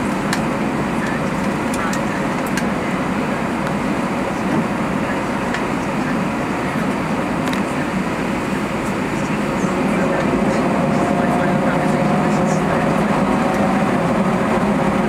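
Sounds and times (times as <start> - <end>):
aircraft cabin engine hum and hiss: 0.0 - 15.0.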